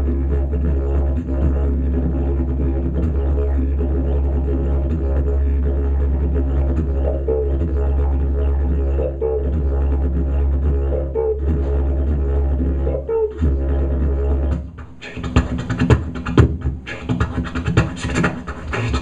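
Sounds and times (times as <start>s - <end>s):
didgeridoo drone: 0.0s - 19.0s.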